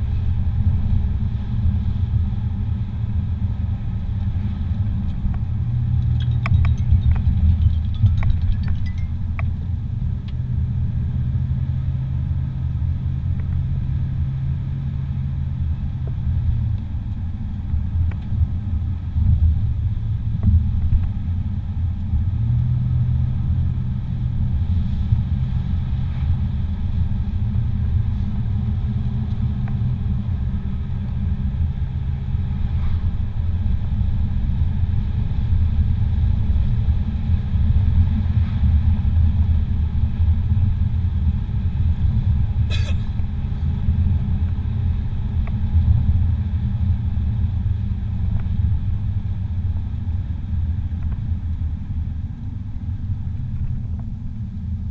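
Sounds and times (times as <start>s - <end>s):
car engine and tyres rumbling: 0.0s - 54.9s.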